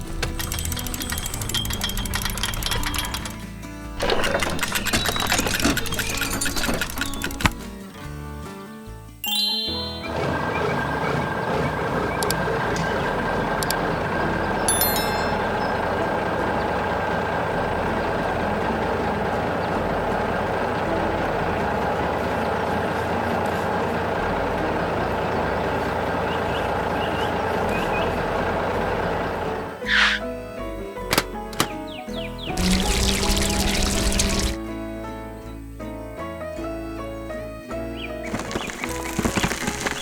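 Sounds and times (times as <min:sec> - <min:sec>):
construction vehicle engine running: 0:00.0 - 0:07.8, 0:09.9 - 0:34.9, 0:38.0 - 0:40.0.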